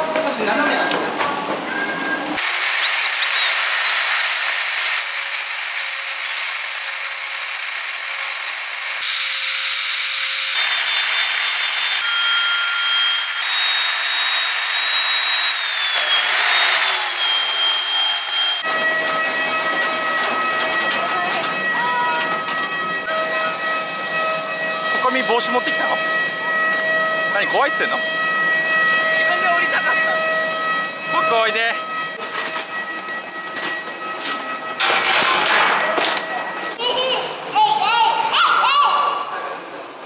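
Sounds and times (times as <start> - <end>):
jet engine rushing and whining: 1.4 - 36.8.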